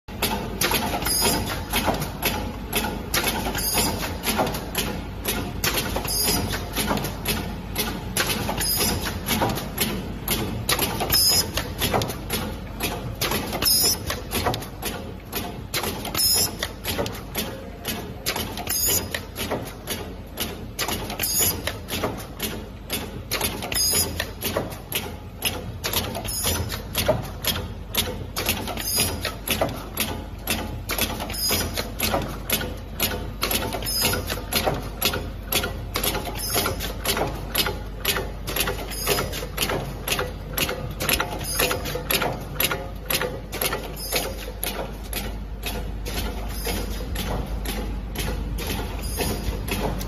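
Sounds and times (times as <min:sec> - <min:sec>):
machine parts clacking rhythmically: 0:00.1 - 0:50.0.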